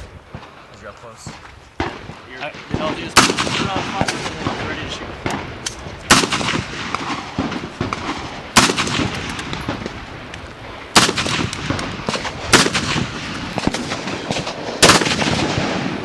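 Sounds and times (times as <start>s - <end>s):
distant gunshots: 0.2s - 16.0s
loud rifle shots with echo: 1.8s - 16.0s.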